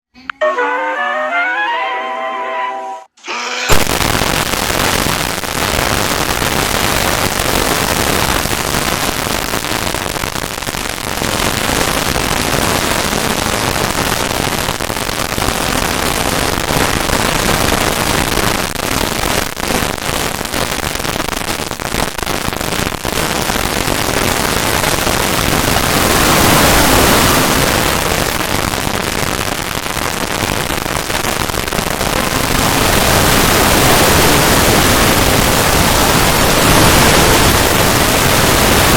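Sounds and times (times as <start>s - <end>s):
harsh crackling static noise: 3.7s - 38.9s.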